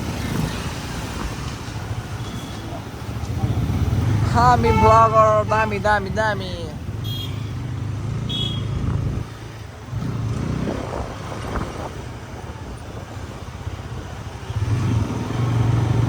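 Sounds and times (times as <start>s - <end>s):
motorcycle engine hum: 0.0s - 16.0s
traffic noise: 0.0s - 16.0s.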